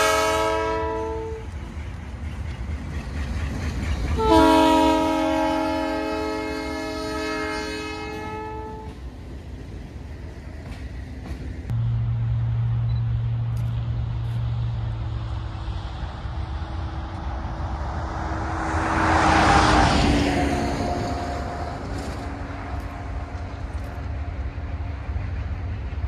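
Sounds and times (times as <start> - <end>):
diesel locomotives passing: 0.0 - 26.0.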